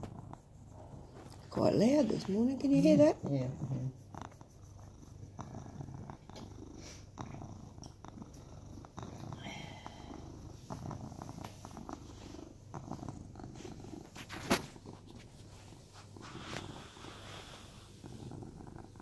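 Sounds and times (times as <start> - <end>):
cat purring loudly: 0.0 - 19.0.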